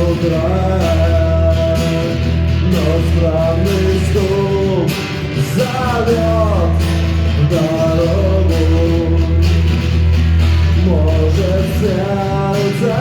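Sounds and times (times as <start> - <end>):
guitar: 0.0 - 13.0
man singing rock song: 0.0 - 13.0.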